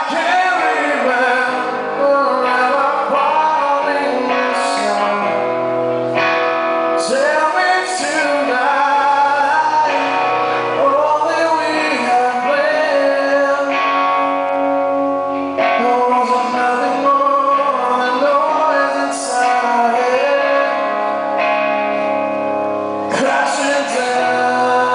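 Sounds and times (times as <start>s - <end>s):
man singing into a microphone: 0.0s - 22.0s, 22.9s - 24.9s
electric guitar chords: 0.0s - 24.9s.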